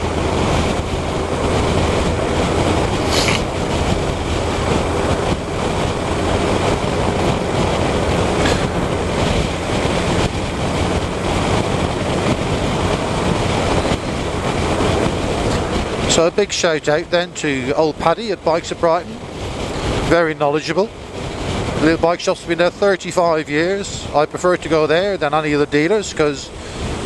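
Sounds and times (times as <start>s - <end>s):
motorcycle engine drone: 0.0s - 27.0s
wind rushing on microphone: 0.0s - 27.0s.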